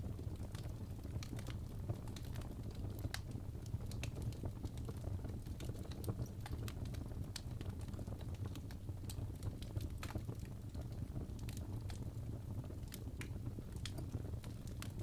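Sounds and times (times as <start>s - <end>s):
fireplace crackling: 0.1s - 15.0s.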